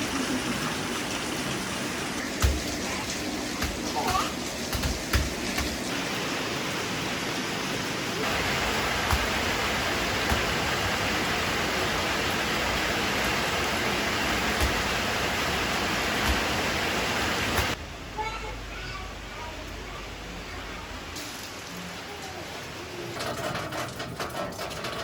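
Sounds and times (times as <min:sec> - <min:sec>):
sharp raindrops: 0:00.0 - 0:25.0
steady rain falling: 0:00.0 - 0:25.0.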